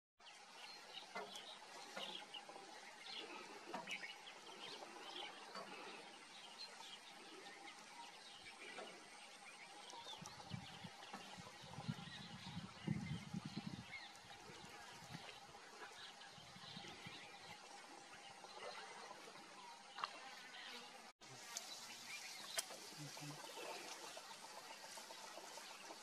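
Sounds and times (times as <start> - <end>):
low uneven rumbling: 0.2 - 26.0
birds chirping and calling: 0.3 - 26.0.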